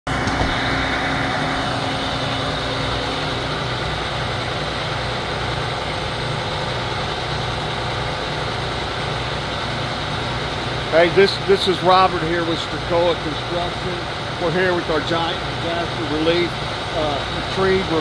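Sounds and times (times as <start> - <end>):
heavy engine idling: 0.1 - 18.0.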